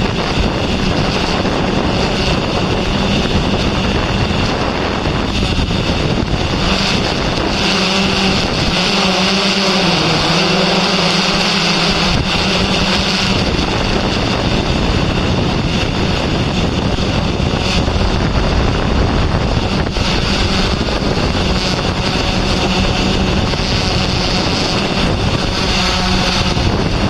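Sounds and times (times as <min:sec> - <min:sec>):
drone rotors whirring: 0:00.0 - 0:27.0
wind rumble on microphone: 0:00.0 - 0:27.0.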